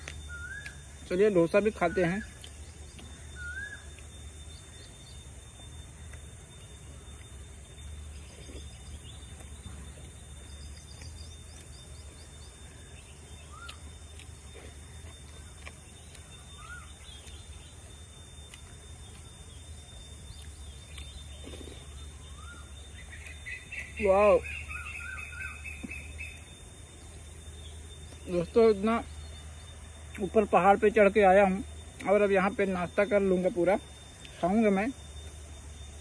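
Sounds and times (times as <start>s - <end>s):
bird chirping: 0.0s - 36.0s
high insect drone: 0.0s - 36.0s.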